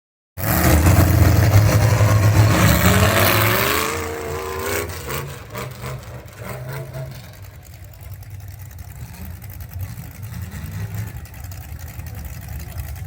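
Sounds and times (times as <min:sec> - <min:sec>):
truck engine revving high: 0:00.4 - 0:13.0.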